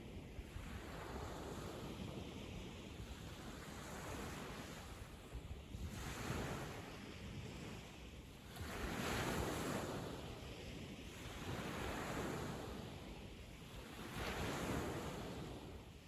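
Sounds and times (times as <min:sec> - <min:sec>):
sea waves breaking on beach: 0:00.5 - 0:16.0.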